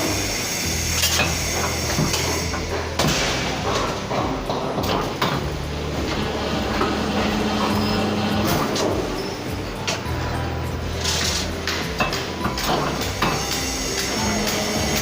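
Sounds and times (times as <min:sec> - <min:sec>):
droning tone: 0:00.0 - 0:15.0
low machine hum: 0:00.0 - 0:15.0.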